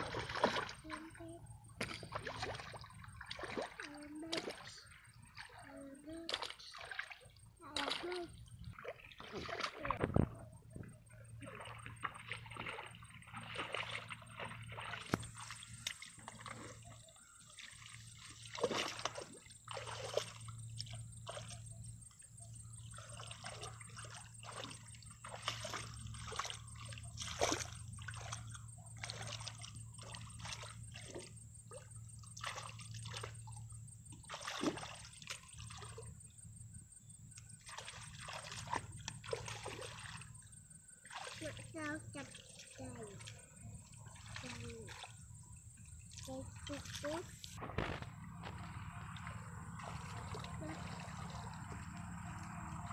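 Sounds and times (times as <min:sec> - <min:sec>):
hands splashing in muddy water: 0:00.0 - 0:01.2, 0:01.8 - 0:10.4, 0:11.4 - 0:21.6, 0:22.9 - 0:33.5, 0:34.2 - 0:36.1, 0:37.4 - 0:40.4, 0:46.0 - 0:52.9.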